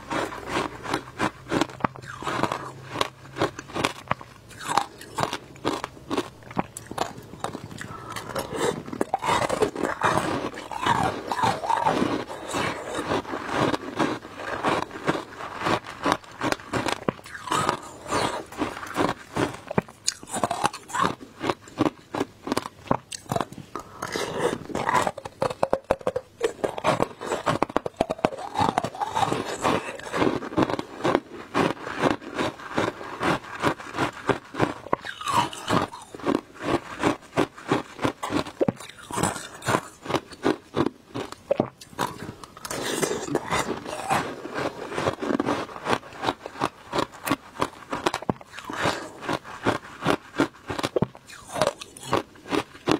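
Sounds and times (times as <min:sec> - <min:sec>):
ice crunching between teeth: 0:00.0 - 0:52.9.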